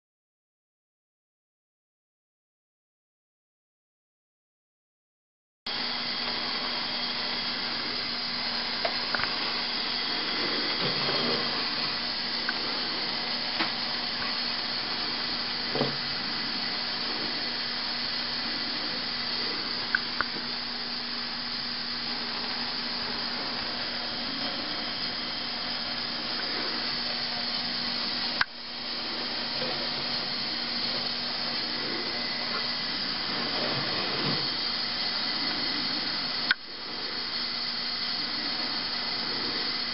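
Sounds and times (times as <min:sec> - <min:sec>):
pressure lamp hissing: 0:05.7 - 0:39.9.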